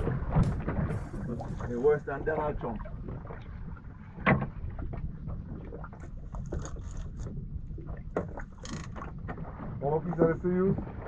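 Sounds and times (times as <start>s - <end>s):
low rumble of boat: 0.0s - 11.0s.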